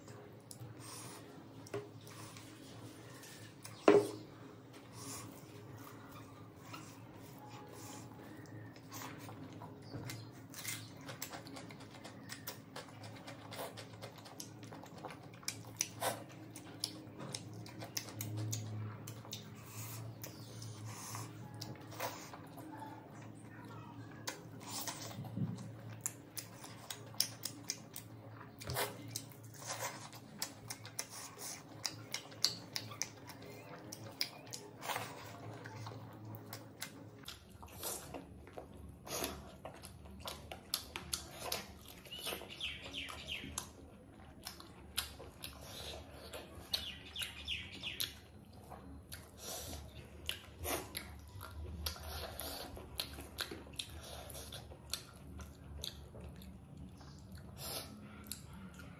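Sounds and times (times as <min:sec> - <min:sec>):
chewing and lip-smacking: 0:00.0 - 0:58.9.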